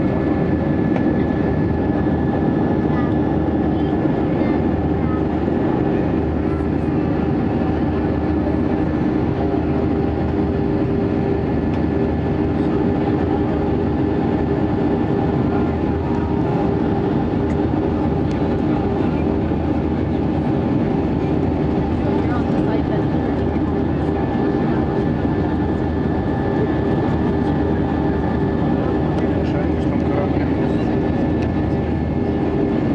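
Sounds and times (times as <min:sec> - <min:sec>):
jet engine cabin drone: 0:00.0 - 0:32.9.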